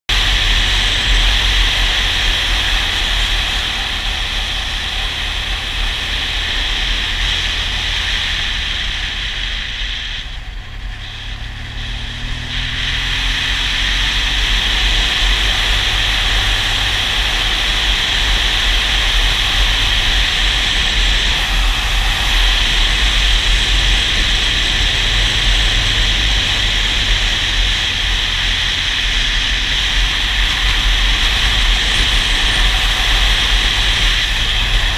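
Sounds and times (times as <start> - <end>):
motorcycle engine rumble: 0.0 - 34.9
wind rush on microphone: 0.1 - 34.9.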